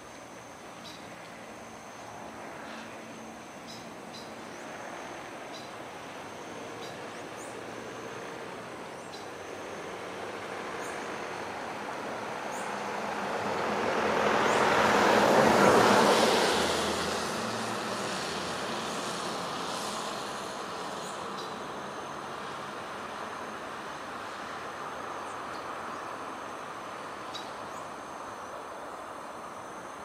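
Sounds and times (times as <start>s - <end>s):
vehicle passing by: 2.2s - 29.8s.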